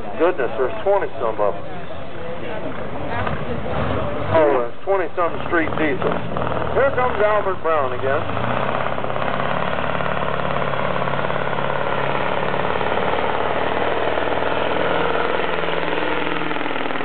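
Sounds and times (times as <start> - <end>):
diesel truck engine under load: 0.0 - 17.0.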